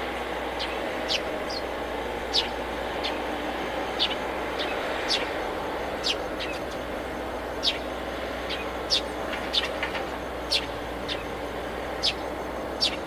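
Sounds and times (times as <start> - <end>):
steady whirr: 0.0 - 13.0
bird chirping: 0.6 - 3.3, 3.9 - 13.0.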